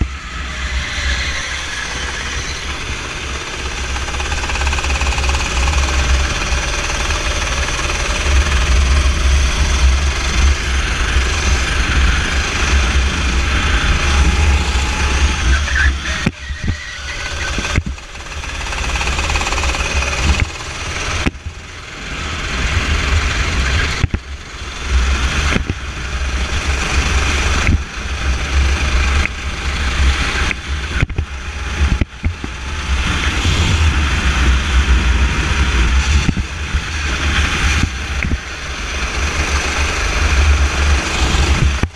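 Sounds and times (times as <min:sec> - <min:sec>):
kart engine racing: 0:00.0 - 0:41.9.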